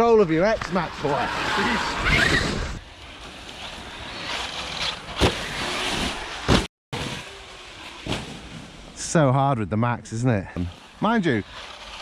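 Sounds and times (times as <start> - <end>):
rc trucks motor and tyres rushing: 0.1 - 9.2, 10.5 - 12.0.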